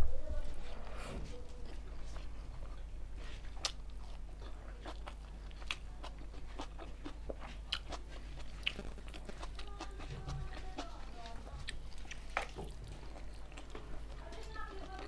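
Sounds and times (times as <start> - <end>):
low steady hum: 0.0 - 15.0
chewing with wet mouth clicks: 1.6 - 15.0.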